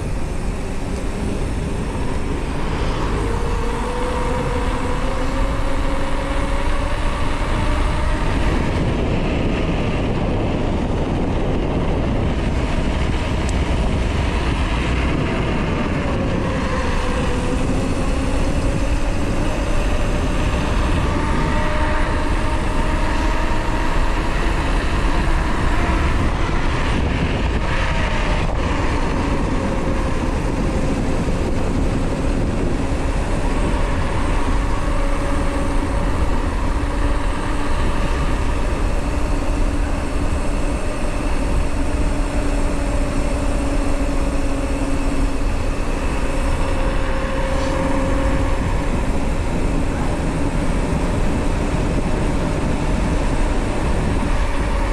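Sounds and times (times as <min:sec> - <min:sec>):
bike tyres humming on asphalt: 0:00.0 - 0:54.9
wind rumble on microphone: 0:00.0 - 0:54.9.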